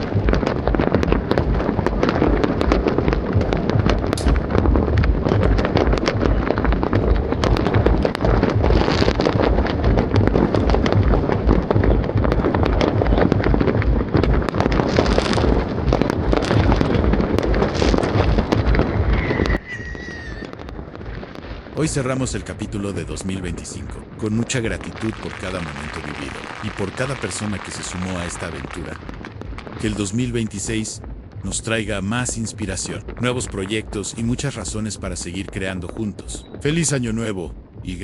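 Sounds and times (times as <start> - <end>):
fireworks and firecrackers banging: 0.0 - 38.0.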